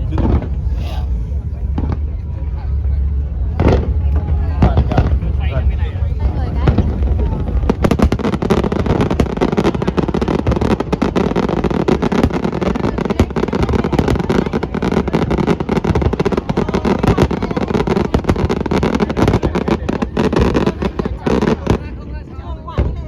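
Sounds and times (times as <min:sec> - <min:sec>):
fireworks bangs and crackles: 0:00.0 - 0:00.7, 0:01.4 - 0:23.0
steady low rumble: 0:00.0 - 0:23.0.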